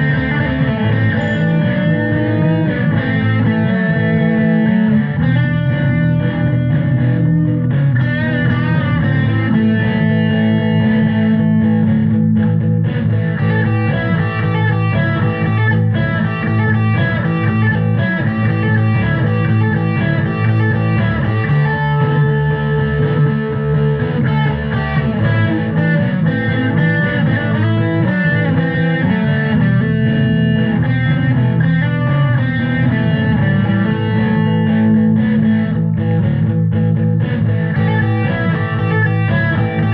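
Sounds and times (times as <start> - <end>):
electric guitar with bass: 0.0 - 39.9.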